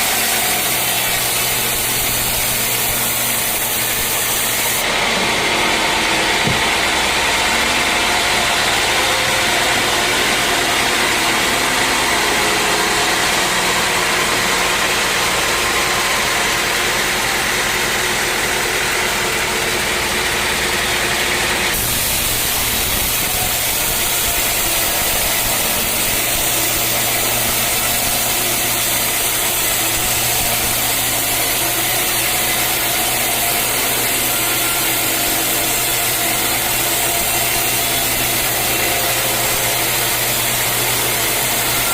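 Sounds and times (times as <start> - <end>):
sawmill machinery humming: 0.0 - 41.9.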